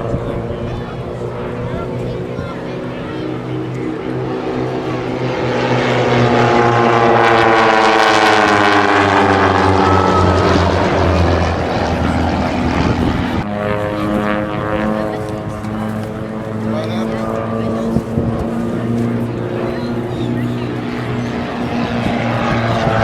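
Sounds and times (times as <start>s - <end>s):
propeller airplane flying past: 0.0s - 23.0s
steady engine drone: 0.0s - 23.0s.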